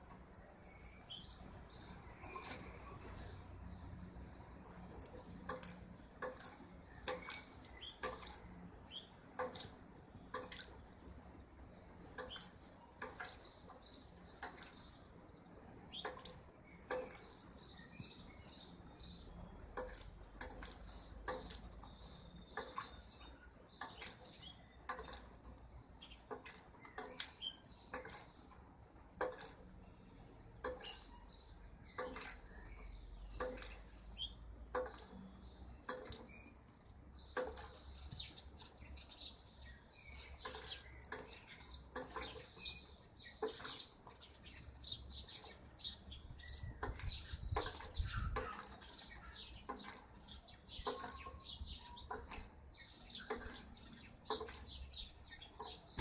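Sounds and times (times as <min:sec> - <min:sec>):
birds splashing in water: 0:01.1 - 0:29.9, 0:30.6 - 0:56.0.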